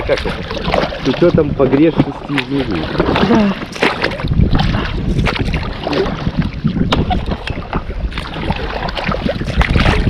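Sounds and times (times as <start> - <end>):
water sounds: 0.0 - 10.0
wind rumbling on microphone: 0.0 - 10.0.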